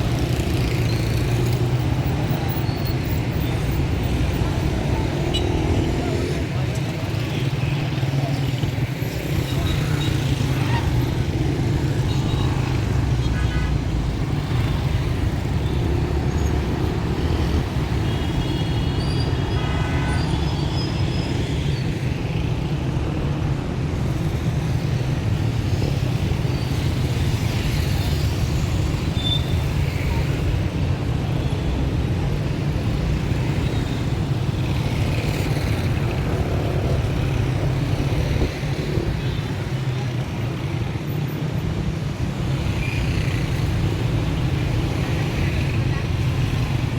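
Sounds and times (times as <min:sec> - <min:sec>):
traffic rumble: 0:00.0 - 0:46.9.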